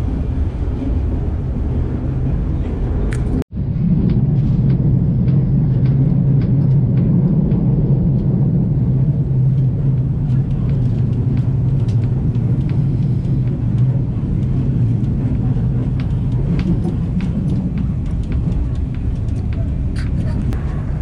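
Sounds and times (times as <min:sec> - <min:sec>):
train rumble from inside coach: 0:00.0 - 0:21.0.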